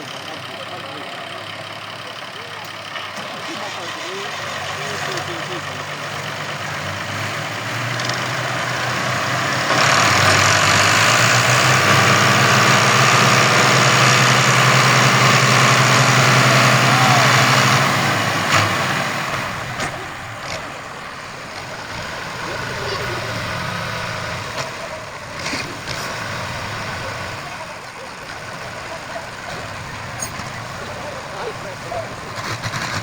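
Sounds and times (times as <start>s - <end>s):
tractor diesel engine straining: 0.0s - 33.0s.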